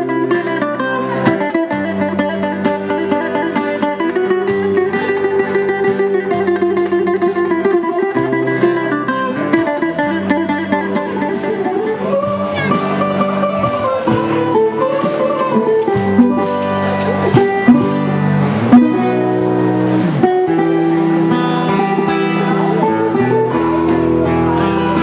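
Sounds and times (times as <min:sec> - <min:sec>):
plucked string instruments playing: 0:00.0 - 0:25.0.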